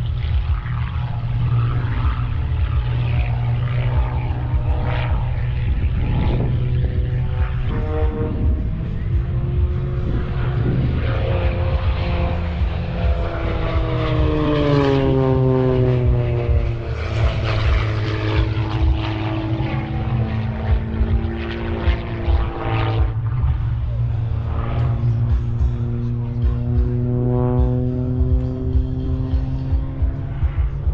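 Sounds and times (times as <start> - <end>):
propeller plane engine passing: 0.0 - 30.9.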